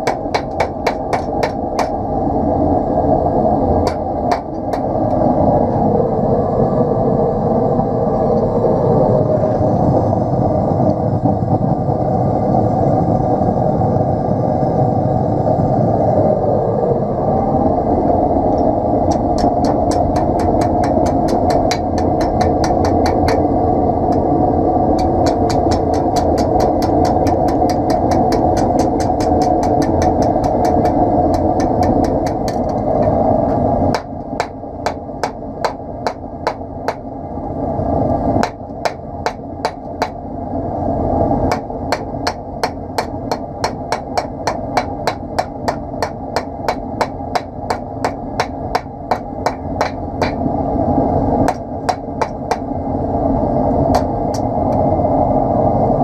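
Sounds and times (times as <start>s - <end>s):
steady rushing noise: 0.0s - 56.0s.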